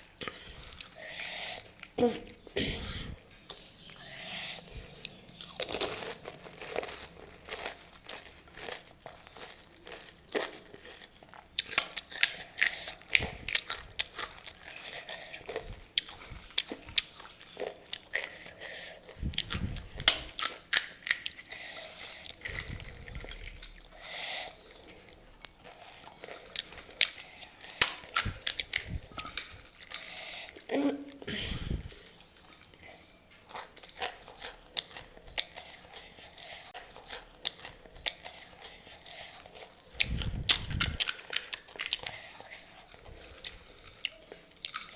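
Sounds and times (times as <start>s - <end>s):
crisp shells crunching in chewing: 3.2s - 44.9s.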